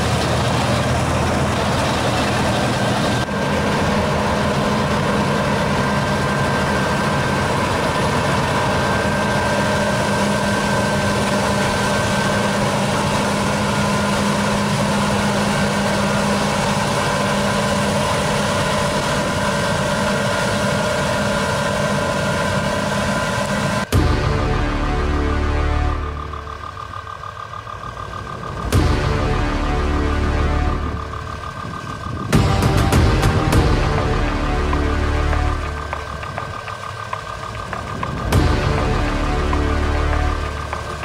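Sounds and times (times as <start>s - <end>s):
combine harvester drone: 0.0s - 41.0s
machinery whines: 0.0s - 41.0s.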